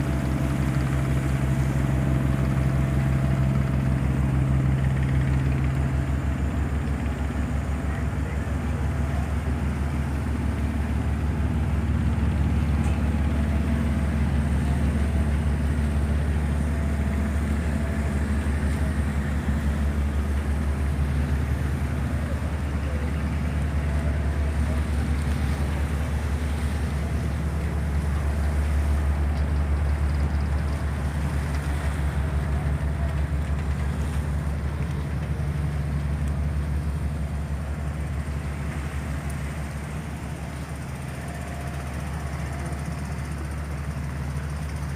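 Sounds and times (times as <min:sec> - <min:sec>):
boat engine droning: 0:00.0 - 0:44.9
water rushing: 0:00.0 - 0:44.9.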